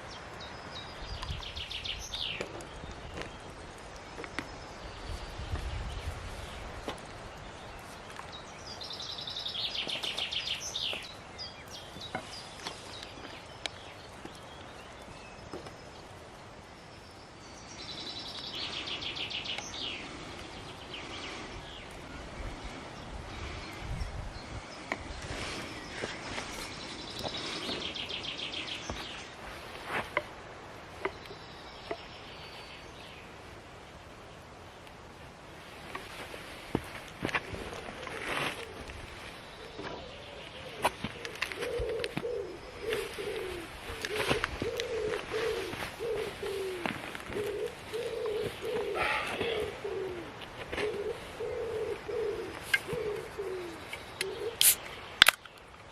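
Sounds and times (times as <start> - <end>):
songbird trill: 0.0 - 34.9, 37.2 - 55.9.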